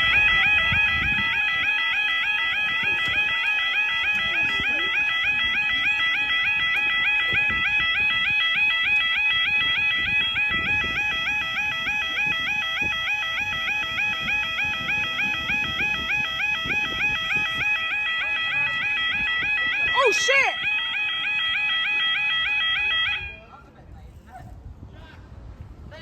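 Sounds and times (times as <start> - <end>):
two-tone warbling crossing alarm: 0.0 - 23.6.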